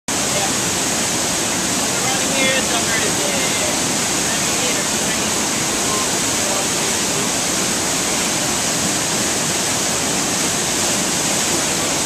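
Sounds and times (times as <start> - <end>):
waterfall rushing: 0.1 - 12.0.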